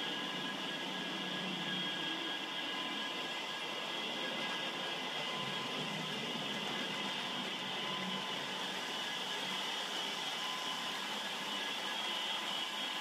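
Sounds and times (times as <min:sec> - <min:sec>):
model train whirring: 0:00.0 - 0:13.0.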